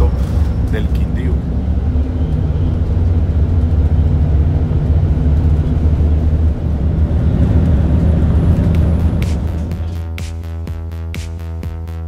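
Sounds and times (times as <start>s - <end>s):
coach engine hum: 0.0s - 12.0s
road and tyre noise: 0.0s - 12.0s.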